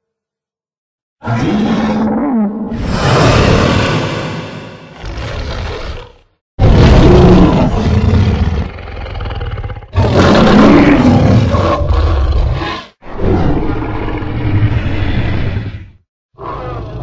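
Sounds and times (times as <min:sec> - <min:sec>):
deep dinosaur roars: 0:01.2 - 0:17.0.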